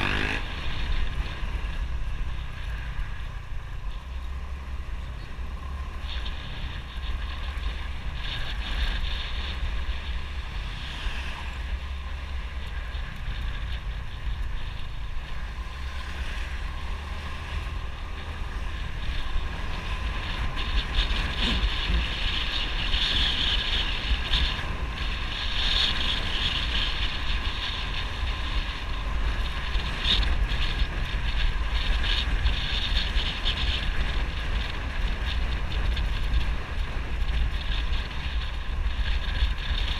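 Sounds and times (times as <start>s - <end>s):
motorbike engine and road rumble: 0.0s - 39.9s
wind rushing over microphone: 0.0s - 39.9s.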